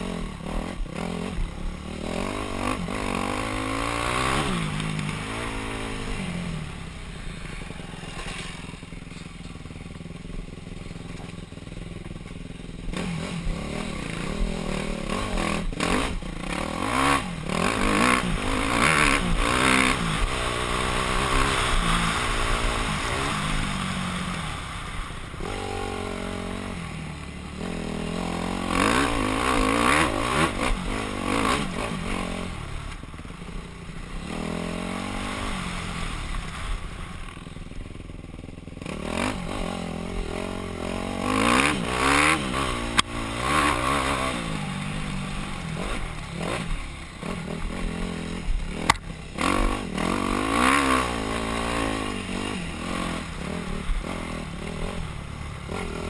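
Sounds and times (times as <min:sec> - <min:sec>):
dirt bike engine revving: 0:00.0 - 0:11.3, 0:12.6 - 0:56.0.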